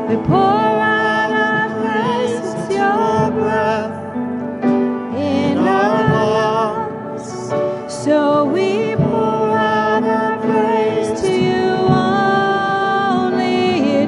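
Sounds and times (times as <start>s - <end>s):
worship song with voices singing: 0.0s - 14.0s.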